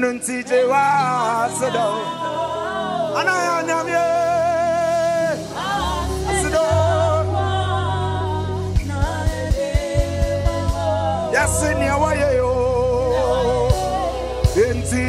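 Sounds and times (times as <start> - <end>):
person singing with vibrato: 0.0 - 15.0
band playing: 0.9 - 15.0.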